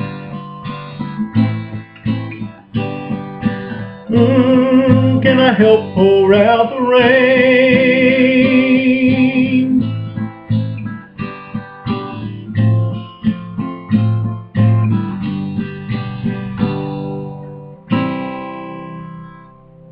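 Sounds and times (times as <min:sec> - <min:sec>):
acoustic guitar playing: 0:00.0 - 0:19.9.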